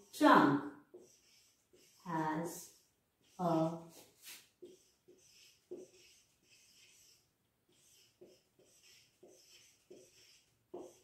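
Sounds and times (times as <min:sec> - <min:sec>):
marker writing on a whiteboard: 0:00.0 - 0:11.0.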